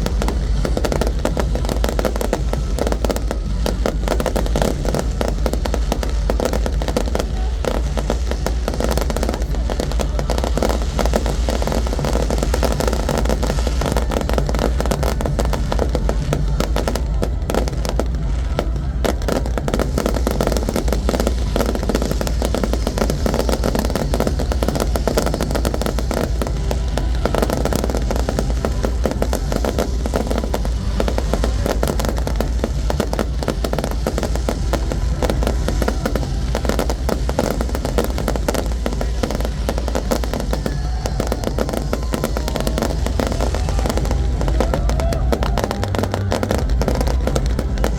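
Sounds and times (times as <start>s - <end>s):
deep rumble: 0.0s - 47.9s
fireworks bangs and crackles: 0.0s - 47.9s.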